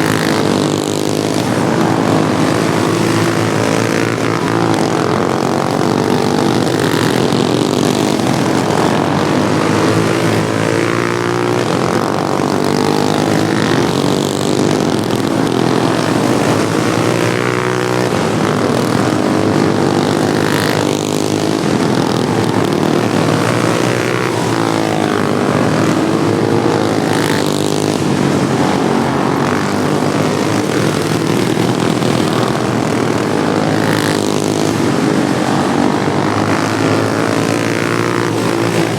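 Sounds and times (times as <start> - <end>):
racing lawnmower engines: 0.0 - 38.9.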